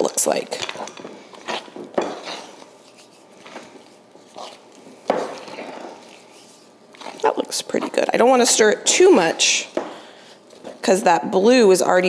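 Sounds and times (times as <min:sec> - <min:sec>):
spoon stirring thick batter: 0:00.0 - 0:11.0.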